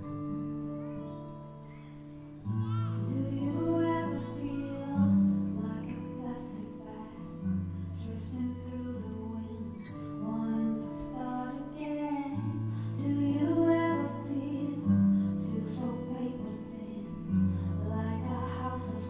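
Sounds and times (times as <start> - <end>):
pop song with female singer: 3.0 - 19.0.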